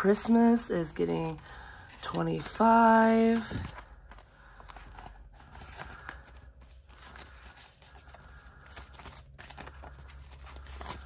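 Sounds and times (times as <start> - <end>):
paper banknotes rustling: 0.0 - 11.0
plastic pouch crinkling: 1.9 - 11.0.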